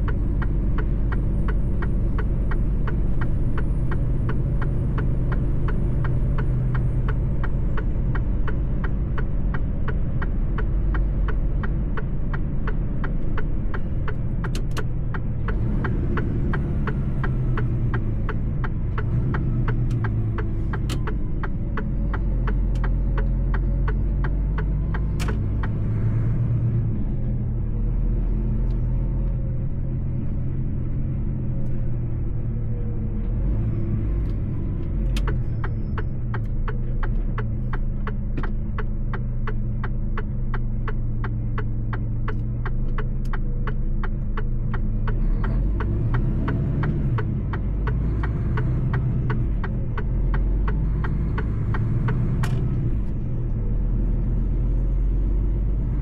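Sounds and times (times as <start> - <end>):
regular engine ticking: 0.0 - 56.0
truck engine rumbling: 0.0 - 56.0.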